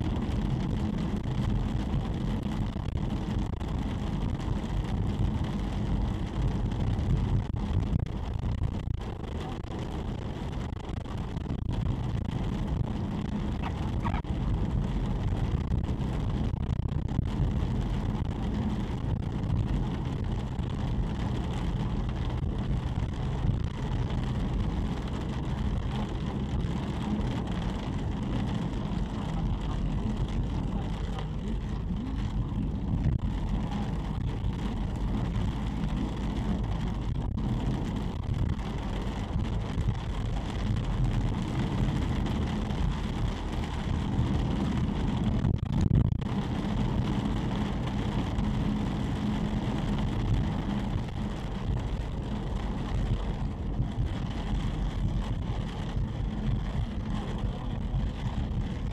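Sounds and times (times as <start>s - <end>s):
car engine and tyre drone: 0.0s - 58.9s.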